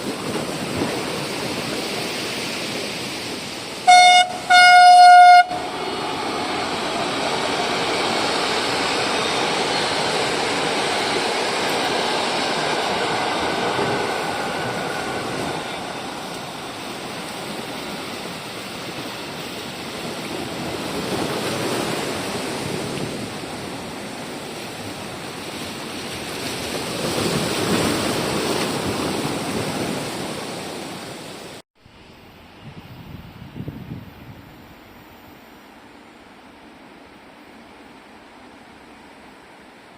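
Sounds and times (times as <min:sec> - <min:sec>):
train passing at speed: 0:00.0 - 0:39.9.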